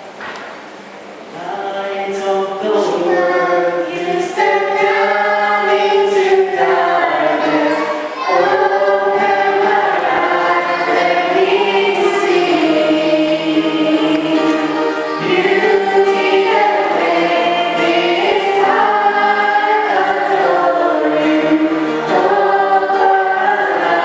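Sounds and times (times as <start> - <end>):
choir singing a hymn: 1.4 - 24.0.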